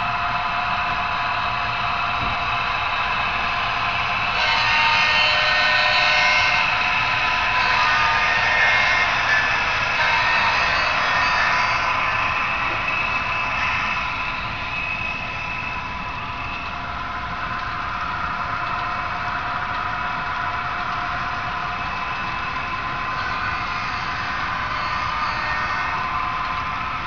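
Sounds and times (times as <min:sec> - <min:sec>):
model train running on track: 0:00.0 - 0:27.0.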